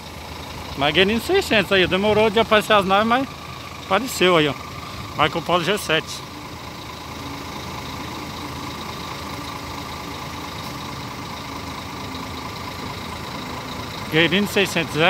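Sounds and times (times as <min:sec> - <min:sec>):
diesel coach engine running: 0:00.0 - 0:15.0.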